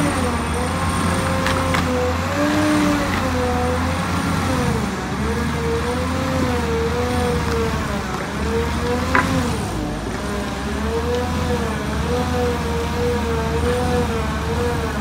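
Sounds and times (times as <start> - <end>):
diesel drone: 0.0 - 15.0
stump grinder whine: 0.0 - 15.0.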